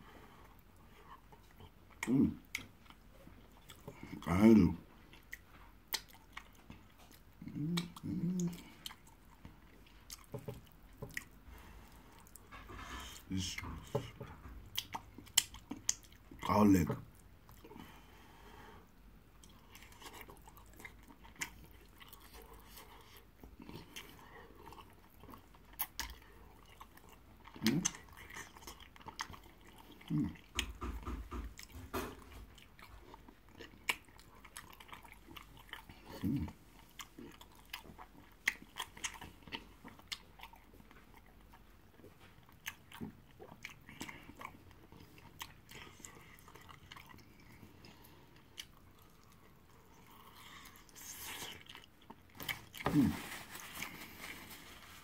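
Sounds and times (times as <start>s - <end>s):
chewing and biting: 5.0s - 16.5s, 19.4s - 54.4s.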